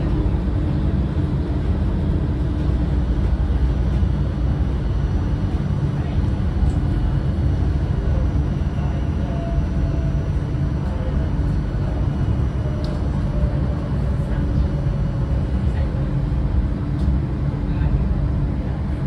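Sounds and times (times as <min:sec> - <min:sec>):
tram rumble on board: 0:00.0 - 0:19.0.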